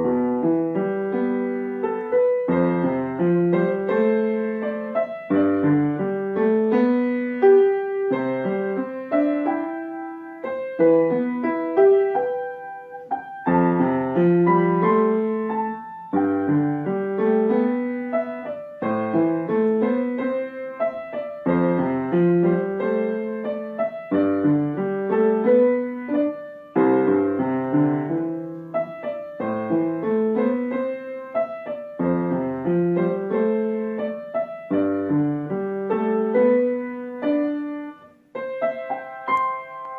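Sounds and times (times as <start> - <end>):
slow solo piano piece: 0.0 - 39.9.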